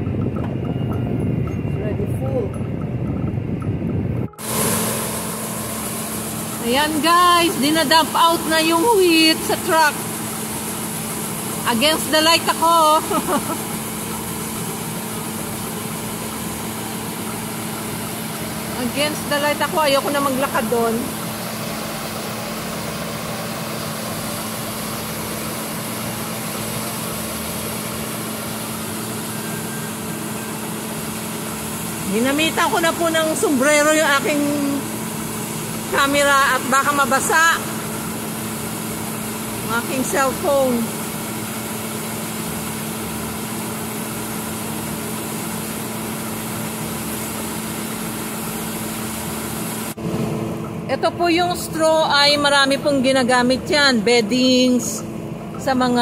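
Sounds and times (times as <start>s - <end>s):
combine harvester humming: 0.0s - 56.0s
auger unloading grain: 4.4s - 50.0s.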